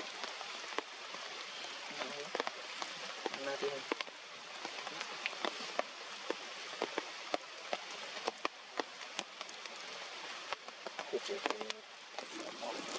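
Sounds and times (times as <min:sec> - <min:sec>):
heavy rain falling: 0:00.0 - 0:12.9
raindrops tapping close by: 0:00.0 - 0:12.9.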